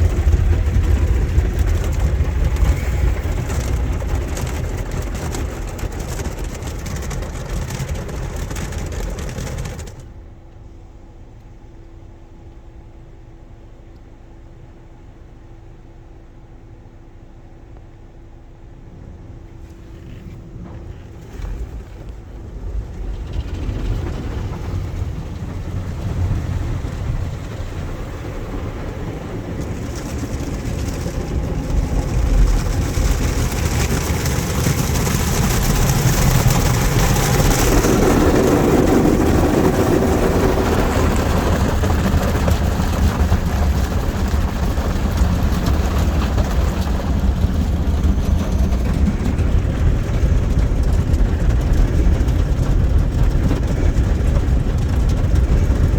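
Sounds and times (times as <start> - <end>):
car wash mechanical rumble: 0.0 - 55.9.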